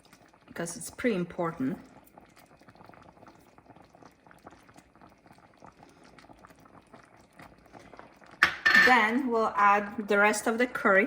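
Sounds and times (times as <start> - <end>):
bubbles popping: 0.0 - 9.1
sauce boiling in a pan: 0.0 - 11.0.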